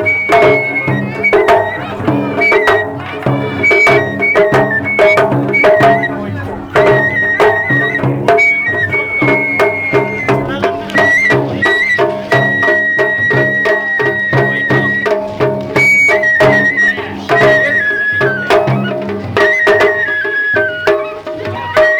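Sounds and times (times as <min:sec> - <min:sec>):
bamboo flute melody: 0:00.0 - 0:21.9
drum strokes: 0:00.0 - 0:21.9.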